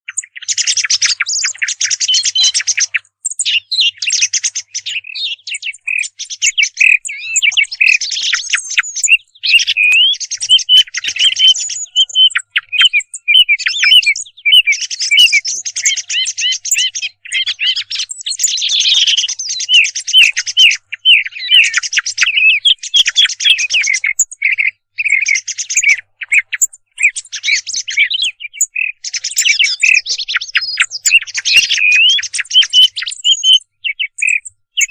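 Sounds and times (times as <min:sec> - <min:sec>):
thrush chirps and trills: 0:00.1 - 0:34.9.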